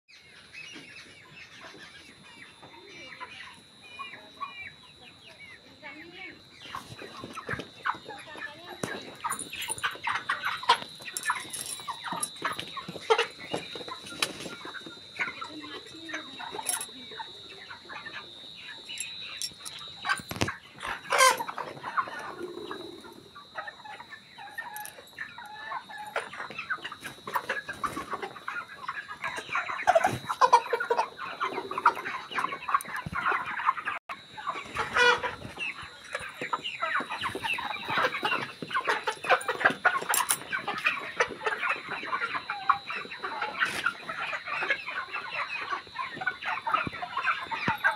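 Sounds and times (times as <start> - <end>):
chickens clucking: 0.1 - 47.9.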